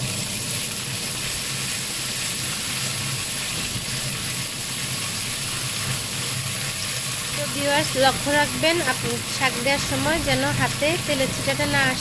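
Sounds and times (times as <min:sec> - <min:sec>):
greens sizzling in hot oil: 0:00.0 - 0:12.0.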